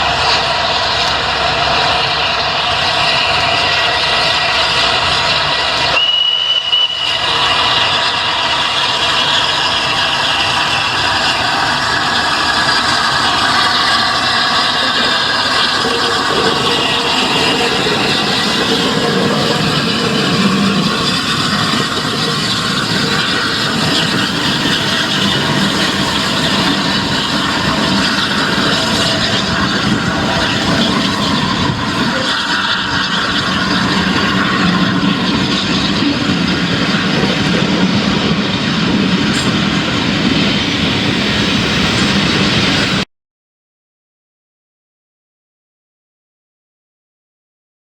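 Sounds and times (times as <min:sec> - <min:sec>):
steam train running on rails: 0:00.0 - 0:43.0.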